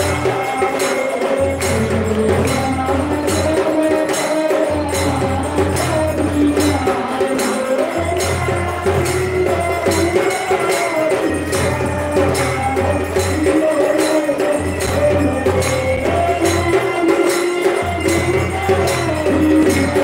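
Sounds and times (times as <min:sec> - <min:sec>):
percussion beat: 0:00.0 - 0:20.0.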